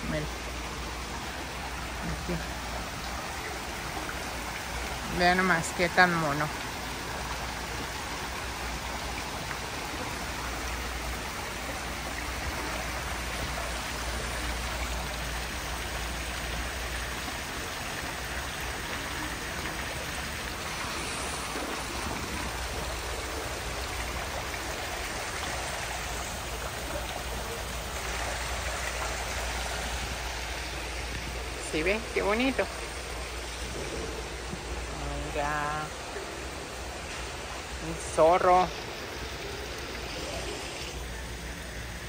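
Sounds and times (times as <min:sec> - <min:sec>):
running water rushing: 0:00.0 - 0:42.0.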